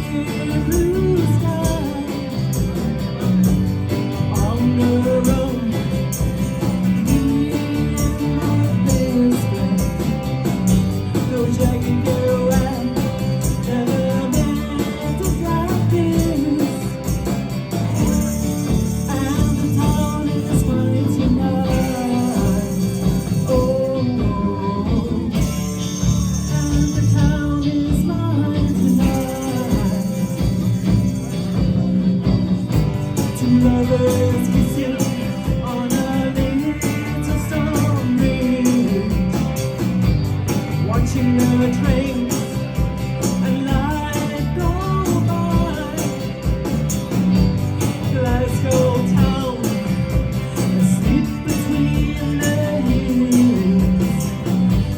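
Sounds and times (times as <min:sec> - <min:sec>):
person singing: 0:00.0 - 0:02.8, 0:04.2 - 0:30.9, 0:33.2 - 0:39.8, 0:40.8 - 0:46.6, 0:47.9 - 0:54.7
bass: 0:00.0 - 0:54.9
live pop band playing: 0:00.0 - 0:54.9
steady drum beat: 0:00.0 - 0:54.9
strummed guitars: 0:00.0 - 0:54.9
tambourine shaking: 0:00.0 - 0:54.9.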